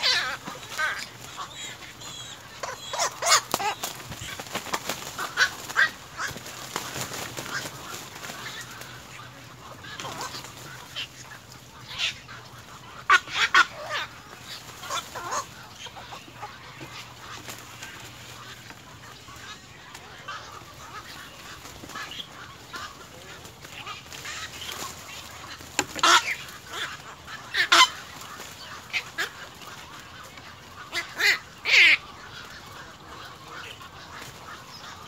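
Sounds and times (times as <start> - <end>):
heron chicks squawking: 0.0 - 35.0.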